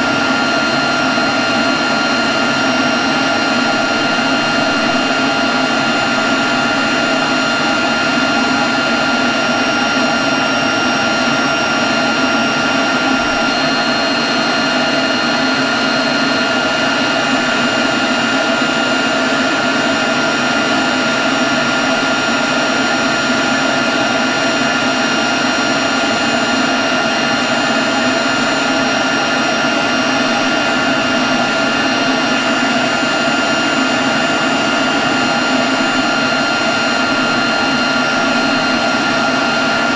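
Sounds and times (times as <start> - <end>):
leaf blower whining: 0.0 - 39.9.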